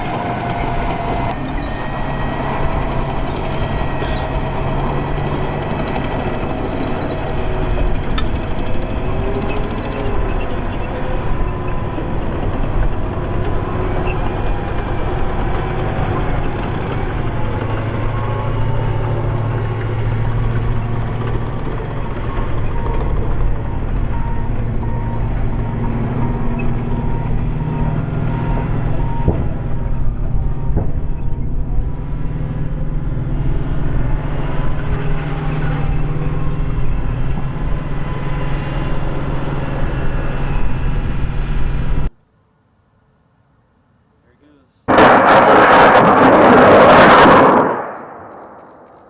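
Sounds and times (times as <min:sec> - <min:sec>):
tracked vehicle engine and tracks: 0:00.0 - 0:42.5, 0:44.0 - 0:49.0.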